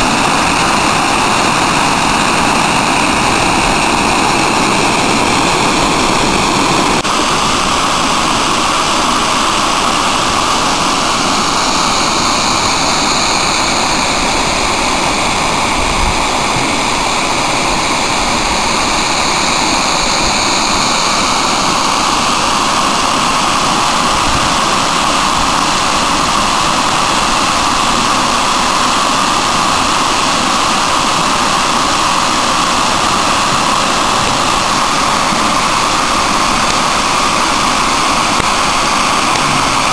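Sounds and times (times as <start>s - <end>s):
water rushing over spillway: 0.0s - 39.9s.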